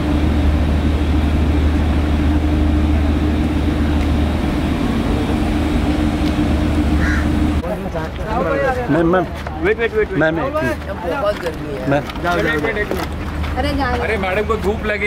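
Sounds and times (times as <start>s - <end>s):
large engine idling: 0.0s - 15.0s.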